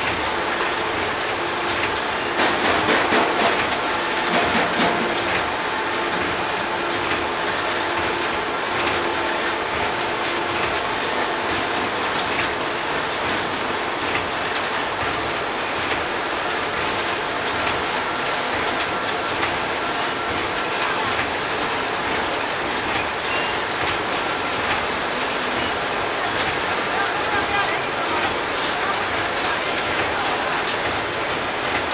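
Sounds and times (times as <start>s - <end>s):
packaging machine clattering: 0.0s - 31.9s.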